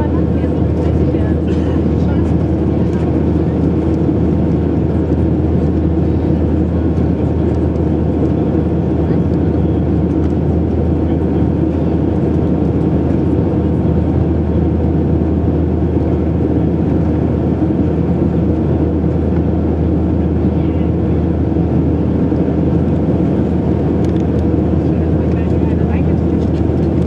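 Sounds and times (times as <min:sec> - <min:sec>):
low aircraft engine drone: 0:00.0 - 0:27.0.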